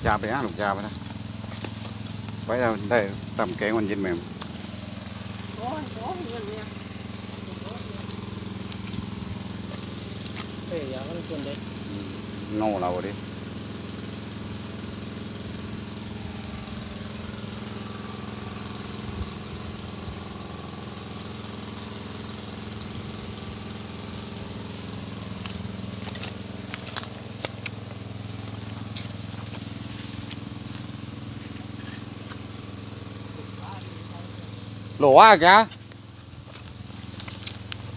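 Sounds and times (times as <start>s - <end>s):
small engine running: 0.0s - 37.9s.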